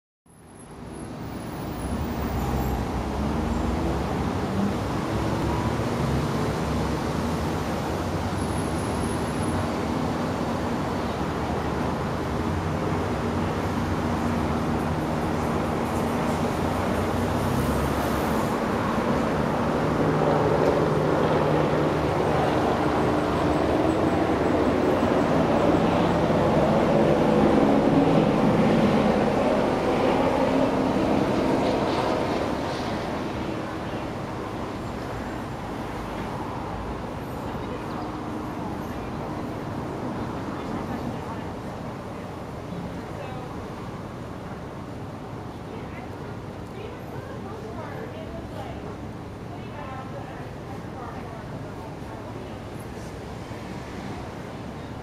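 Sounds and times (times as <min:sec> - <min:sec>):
cars driving by: 0:00.3 - 0:47.4, 0:51.8 - 0:55.0.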